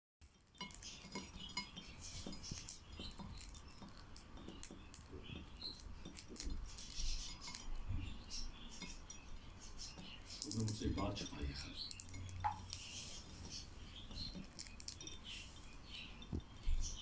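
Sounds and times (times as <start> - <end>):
beak clicking and tapping: 0.2 - 17.0
bird chirping softly: 0.2 - 17.0.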